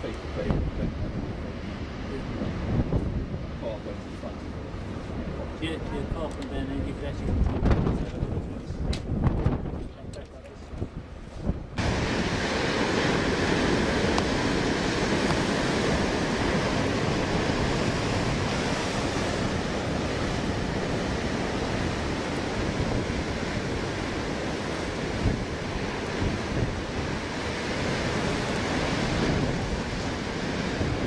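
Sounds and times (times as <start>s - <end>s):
heavy waves breaking on beach: 0.0s - 7.9s, 11.8s - 31.0s
wind buffeting microphone: 0.0s - 31.0s.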